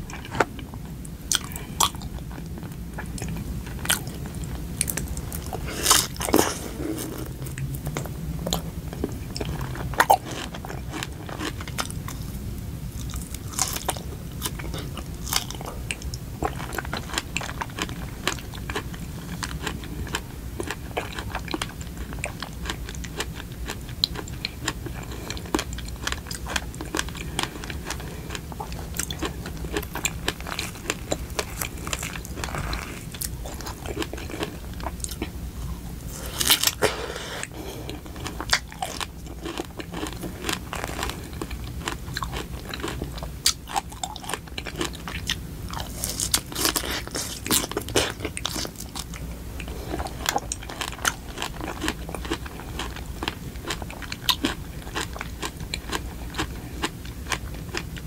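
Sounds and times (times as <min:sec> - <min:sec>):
chewing strawberry: 0:00.0 - 0:58.0.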